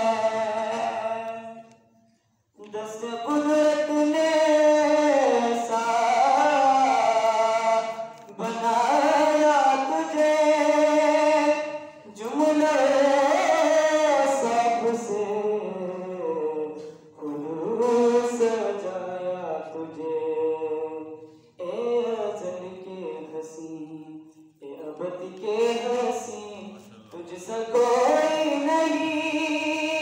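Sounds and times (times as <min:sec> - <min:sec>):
man chanting unaccompanied: 0:02.6 - 0:30.0.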